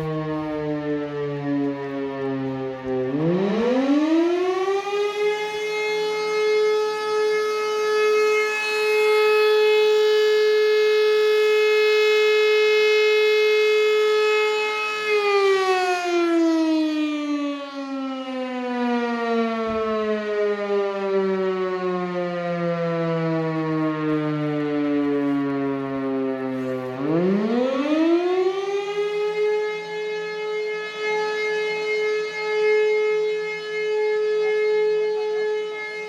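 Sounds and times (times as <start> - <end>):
electric siren howling: 0.0 - 36.0.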